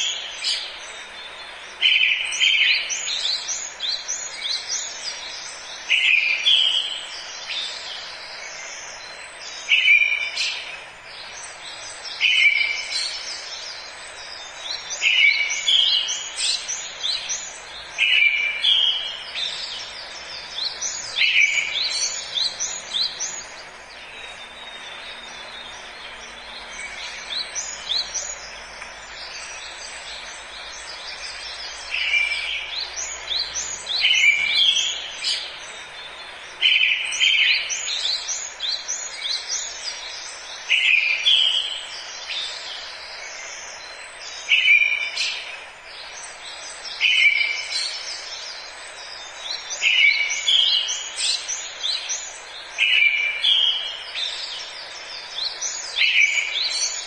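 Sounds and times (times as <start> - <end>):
birds chirping and calling: 0.0 - 57.0
steady background hiss: 0.0 - 57.0.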